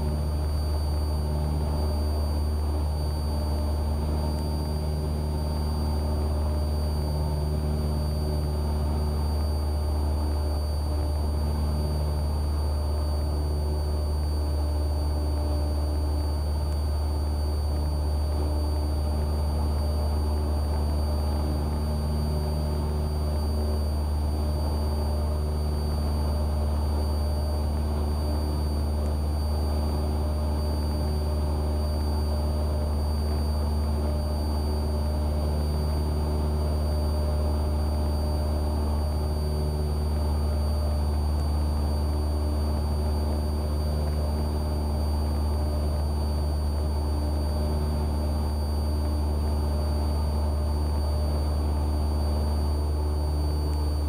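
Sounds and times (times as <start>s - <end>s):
aircraft engine and propeller drone: 0.0s - 54.0s
faint high whine: 0.0s - 54.0s.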